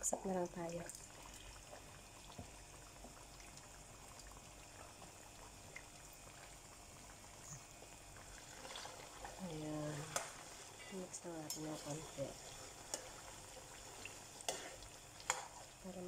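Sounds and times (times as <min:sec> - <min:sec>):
oil bubbling while deep-frying: 0:00.0 - 0:16.0
small crackles: 0:00.6 - 0:16.0.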